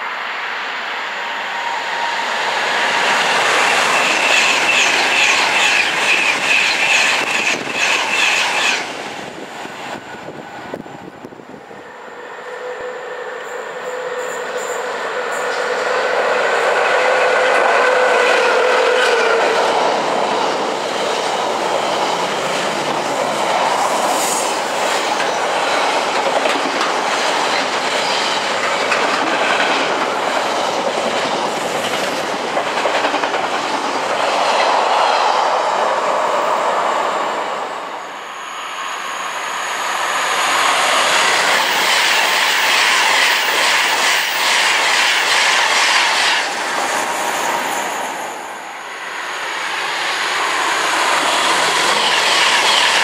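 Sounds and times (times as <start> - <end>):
electric train rushing past: 0.0 - 53.0.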